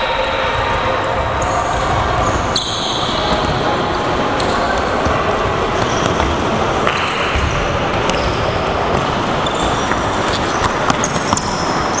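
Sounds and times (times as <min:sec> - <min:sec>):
loud background noise: 0:00.0 - 0:12.0
balls bouncing on hall floor: 0:01.4 - 0:12.0.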